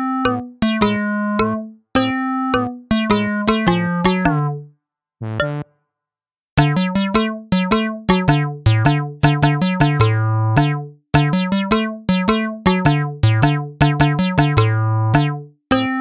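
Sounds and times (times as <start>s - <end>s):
bouncy keyboard tune: 0.0s - 5.7s, 6.6s - 16.0s.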